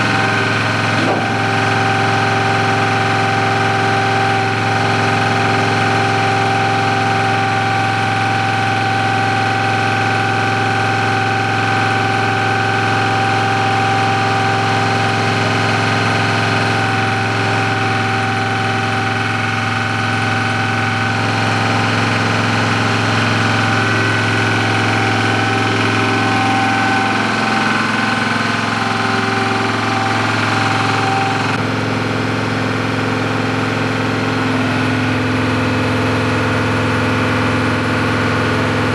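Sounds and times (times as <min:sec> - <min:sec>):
engine droning: 0:00.0 - 0:38.9.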